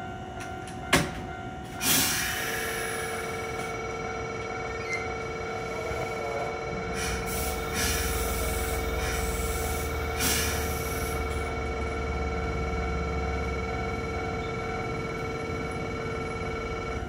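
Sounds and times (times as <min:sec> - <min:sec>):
electric train equipment humming: 0:00.0 - 0:17.0
train rumble pulling away: 0:00.0 - 0:17.0.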